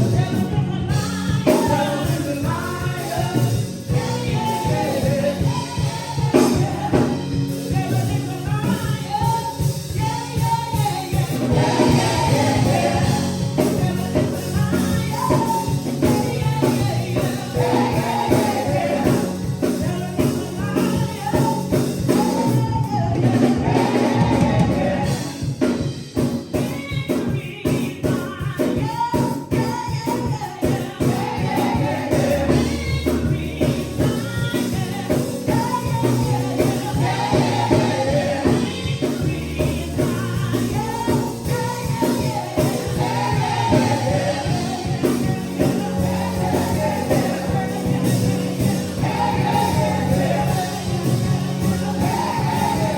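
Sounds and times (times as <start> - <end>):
bass notes: 0.0 - 25.6, 31.0 - 52.9
drum kit beat: 0.0 - 52.9
gospel choir singing: 0.0 - 52.9.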